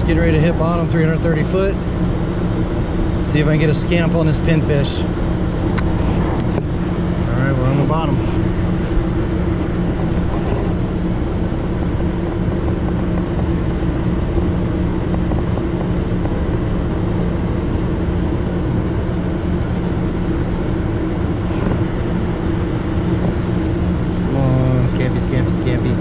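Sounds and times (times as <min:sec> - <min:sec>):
boat engines humming: 0:00.0 - 0:26.0
wind and water wash: 0:00.0 - 0:26.0.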